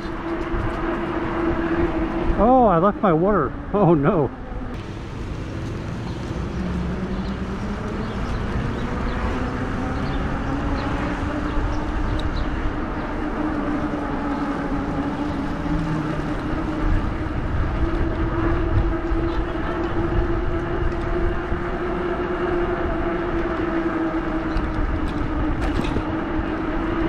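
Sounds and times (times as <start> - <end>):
wind and road noise: 0.0 - 27.0
electric motor whining: 3.6 - 27.0.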